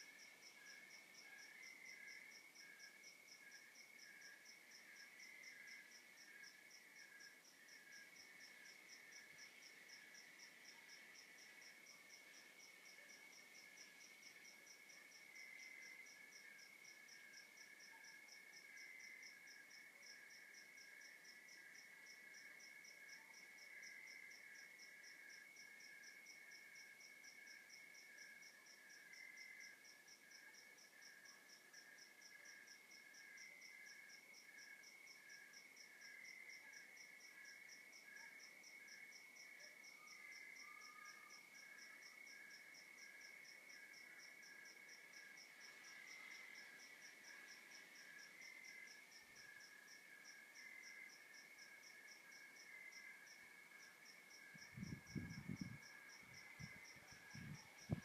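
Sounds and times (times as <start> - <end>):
cricket chirping: 0.0 - 58.0
low insect trill: 0.0 - 58.0.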